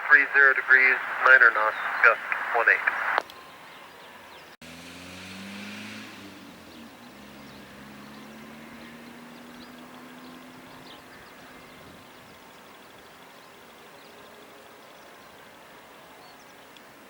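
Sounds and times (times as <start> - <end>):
distant aircraft engines droning: 0.0 - 17.0
faint wind: 0.0 - 17.0.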